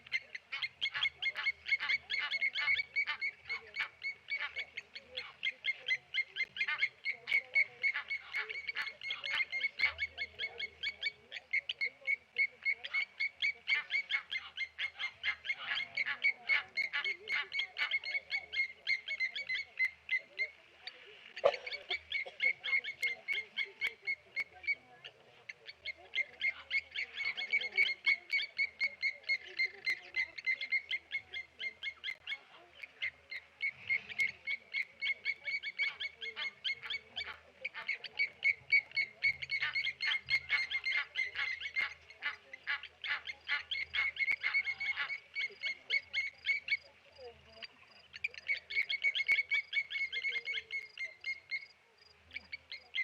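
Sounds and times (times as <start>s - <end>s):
lapwing alarm calls: 0.0s - 46.9s, 47.5s - 53.0s.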